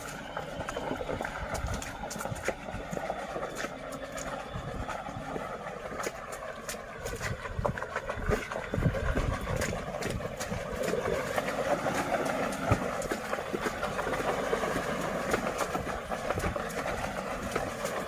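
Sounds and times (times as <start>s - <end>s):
pickup truck engine running: 0.0s - 18.0s.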